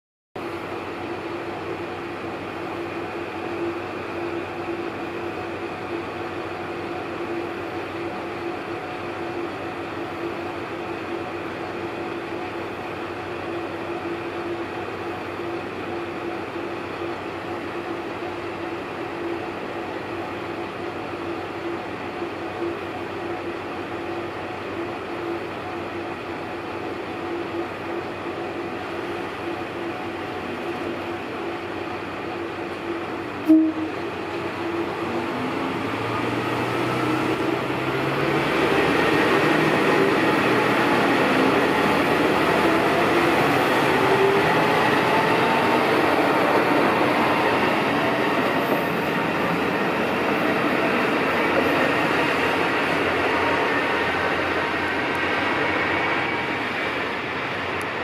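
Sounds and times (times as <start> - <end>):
diesel railcar idling: 0.4 - 58.0.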